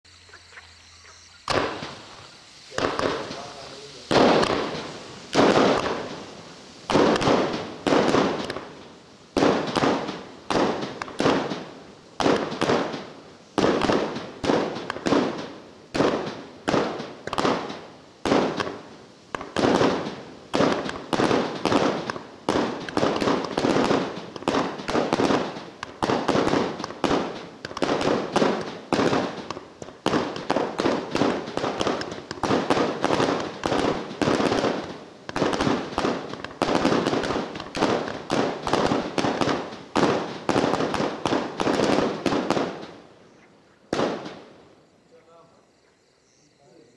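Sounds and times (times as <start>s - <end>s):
fireworks cake firing shots: 1.4s - 43.1s, 43.9s - 44.7s.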